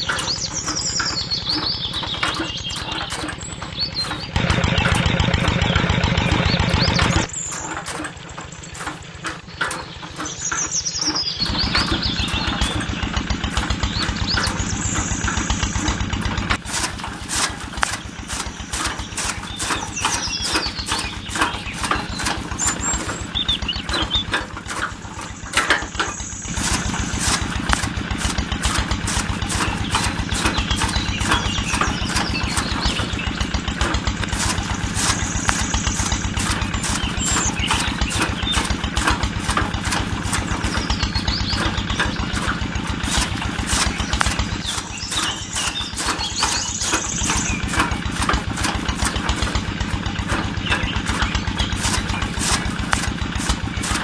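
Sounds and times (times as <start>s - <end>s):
short high squeaks: 0.0s - 54.0s
small engine running: 0.0s - 54.0s.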